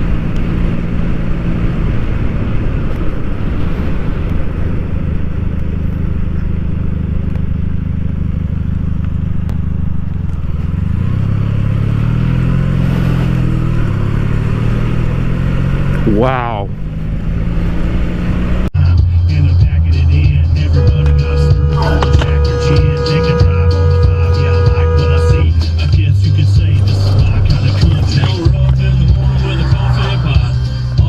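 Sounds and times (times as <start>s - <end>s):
road noise: 0.0s - 31.0s
vehicle engine running: 0.0s - 31.0s.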